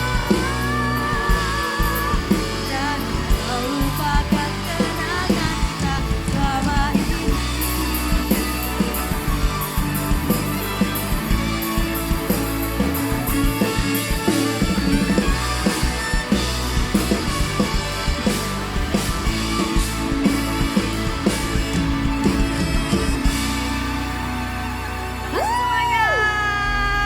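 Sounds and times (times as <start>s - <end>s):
live band music: 0.0s - 27.0s.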